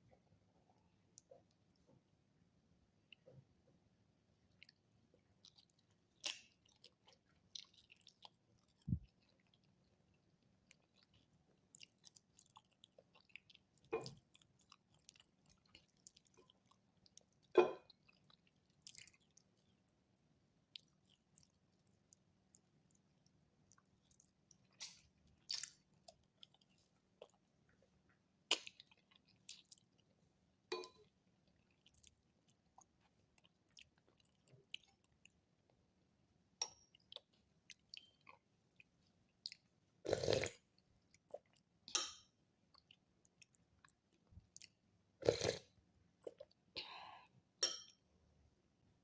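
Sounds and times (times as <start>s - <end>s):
person chewing food: 4.5s - 20.0s, 20.7s - 30.1s, 30.7s - 35.4s, 36.8s - 42.1s, 42.7s - 48.0s.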